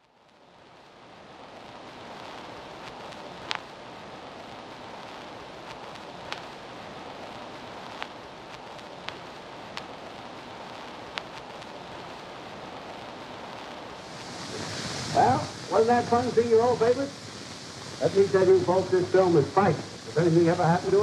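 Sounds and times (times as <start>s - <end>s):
old recording surface noise: 0.0s - 21.0s.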